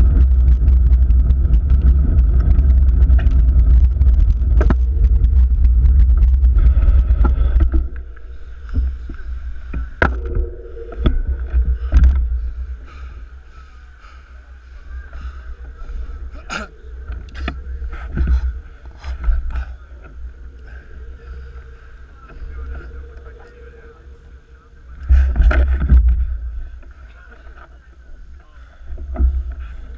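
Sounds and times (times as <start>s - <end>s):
wind and road rumble: 0.0s - 29.9s.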